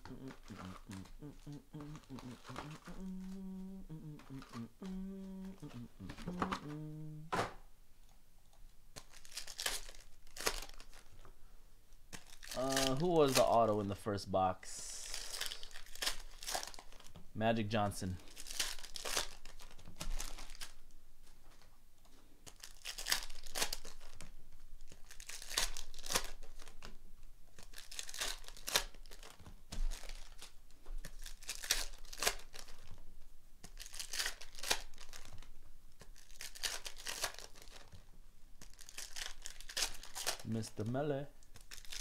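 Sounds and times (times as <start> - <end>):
foil packs ripping and crinkling: 0.0 - 7.1, 9.0 - 11.2, 12.1 - 13.8, 14.8 - 17.1, 18.0 - 20.8, 22.4 - 27.0, 27.6 - 33.0, 33.6 - 42.0.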